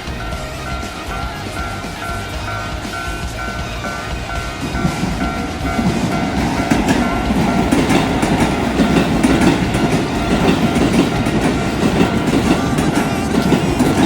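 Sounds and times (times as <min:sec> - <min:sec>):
crossing warning bell ringing: 0:00.0 - 0:14.0
train rumble: 0:00.0 - 0:14.0
train wheels clattering over joints: 0:00.0 - 0:14.0.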